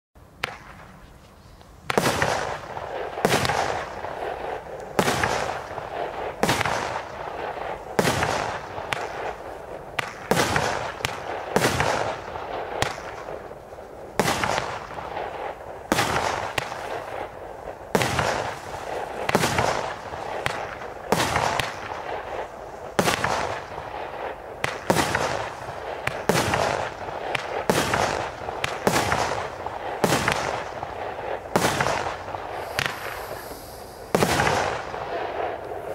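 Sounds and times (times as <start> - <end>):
crackling firework stars: 0.2 - 35.9
firework shots banging: 0.4 - 1.0, 1.8 - 13.5, 14.2 - 35.9.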